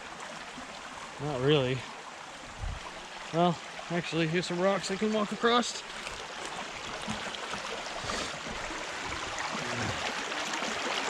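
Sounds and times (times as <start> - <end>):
water running over rocks: 0.0 - 11.0.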